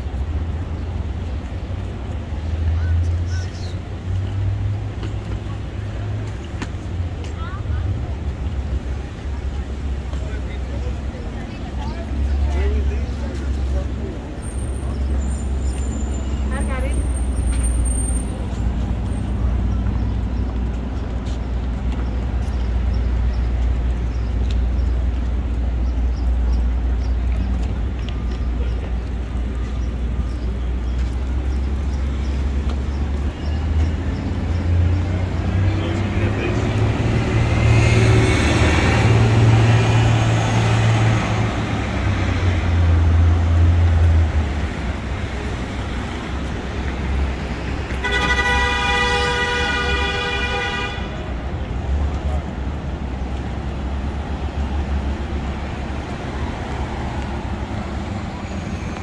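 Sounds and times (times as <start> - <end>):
low rumble of traffic: 0.0 - 59.0.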